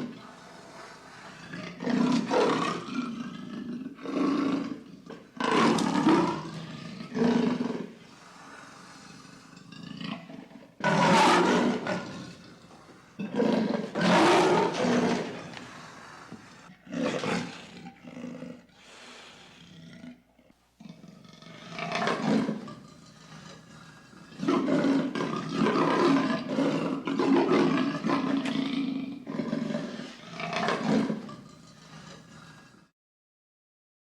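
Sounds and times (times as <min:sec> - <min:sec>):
big cat roaring: 0:00.0 - 0:20.2, 0:20.8 - 0:32.9
big cat snarls: 0:00.0 - 0:32.9.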